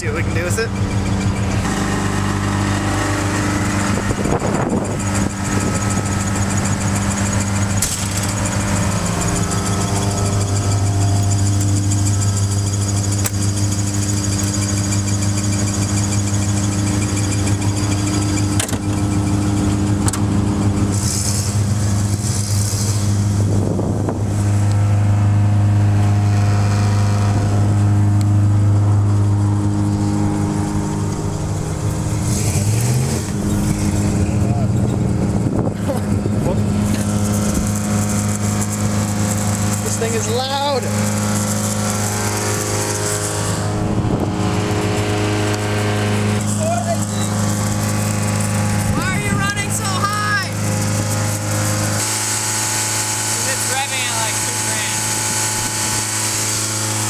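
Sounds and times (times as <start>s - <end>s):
car engine high idle: 0.0s - 56.0s.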